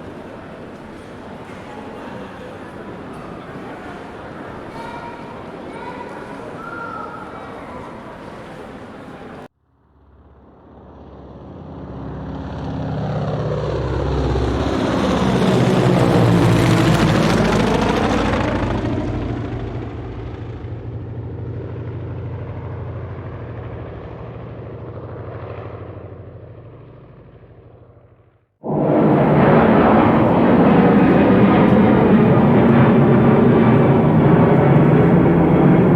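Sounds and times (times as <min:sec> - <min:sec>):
aircraft engine flying over: 0:00.0 - 0:35.9.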